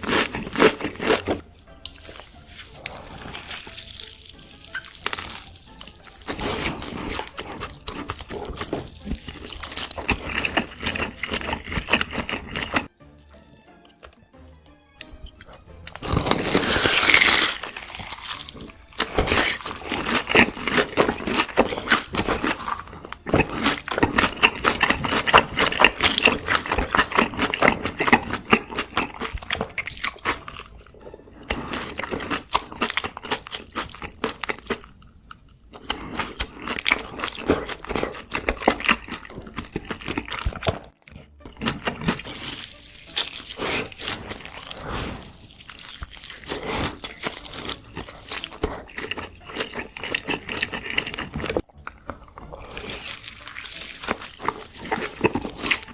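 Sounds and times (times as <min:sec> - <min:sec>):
crunchy chewing: 0:00.0 - 0:13.0, 0:15.0 - 0:55.9.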